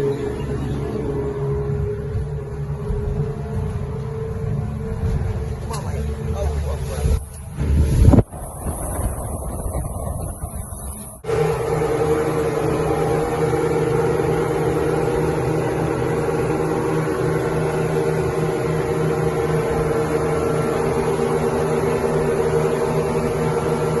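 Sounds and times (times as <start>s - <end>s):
outboard motor humming: 0.0s - 24.0s.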